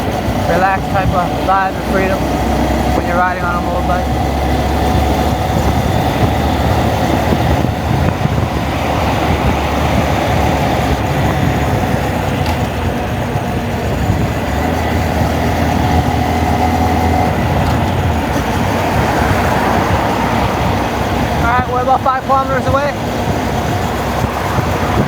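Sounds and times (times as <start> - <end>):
motorbike engine running: 0.0 - 25.0
wind buffeting microphone: 0.0 - 25.0.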